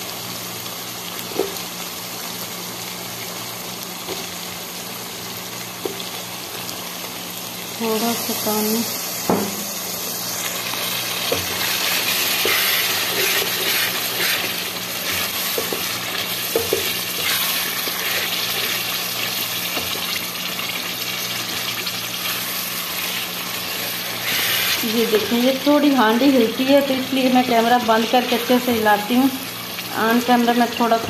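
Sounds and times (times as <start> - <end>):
meat sizzling in a pot: 0.0 - 31.0.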